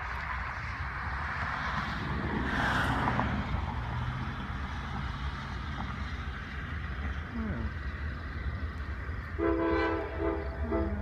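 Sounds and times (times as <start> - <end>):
car passing: 0.0 - 11.0
distant freight train rumble: 0.0 - 11.0.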